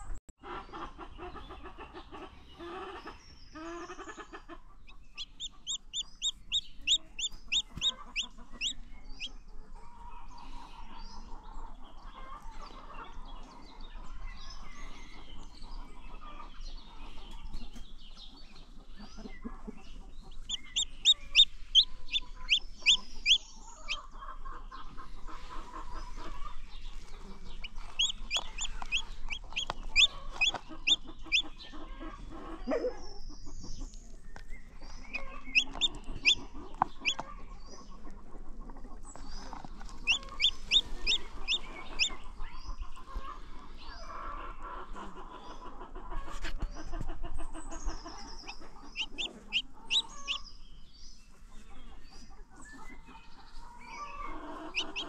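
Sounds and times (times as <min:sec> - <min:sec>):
hen clucking: 0:00.4 - 0:50.8, 0:51.4 - 0:55.0
chicks peeping: 0:00.4 - 0:55.0.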